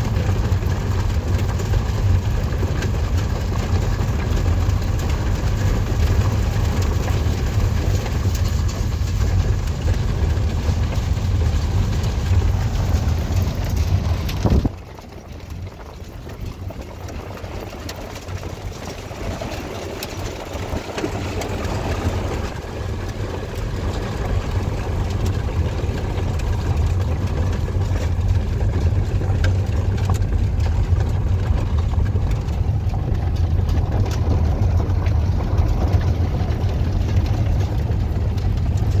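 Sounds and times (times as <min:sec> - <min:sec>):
car driving on gravel road: 0:00.0 - 0:39.0.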